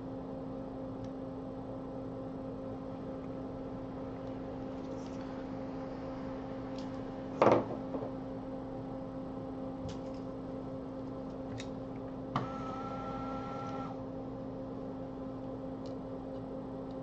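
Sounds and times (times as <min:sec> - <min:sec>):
extractor fan humming: 0:00.0 - 0:17.0.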